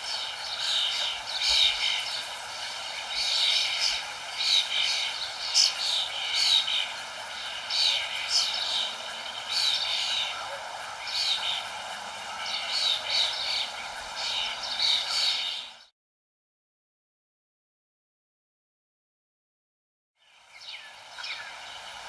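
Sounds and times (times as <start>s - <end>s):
songbirds chirping: 0.0s - 15.9s, 20.2s - 22.0s.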